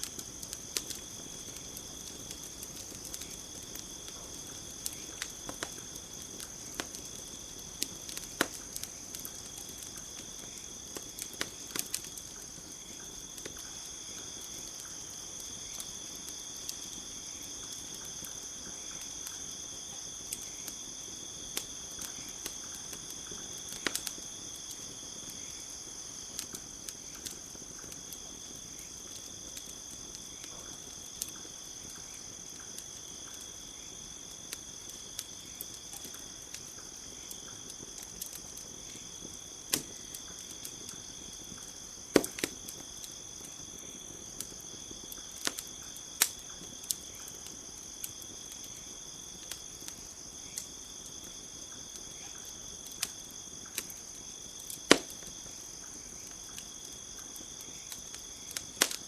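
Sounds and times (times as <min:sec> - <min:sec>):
campfire crackling and popping: 0:00.0 - 0:59.0
crickets chirring: 0:00.0 - 0:59.0.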